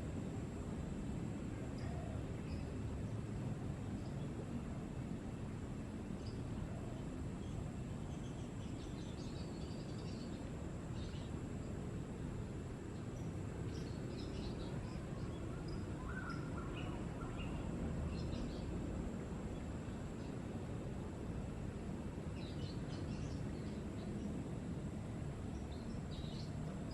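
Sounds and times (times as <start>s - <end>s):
low outdoor rumble: 0.0s - 26.9s.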